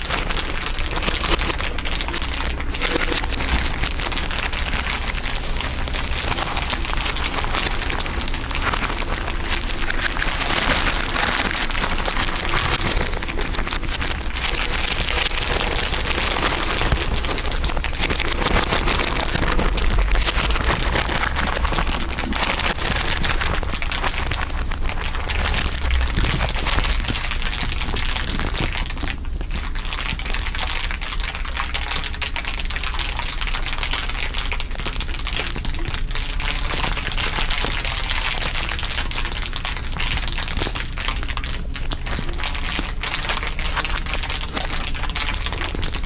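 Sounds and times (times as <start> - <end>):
dense crinkling crackle: 0.0 - 46.0.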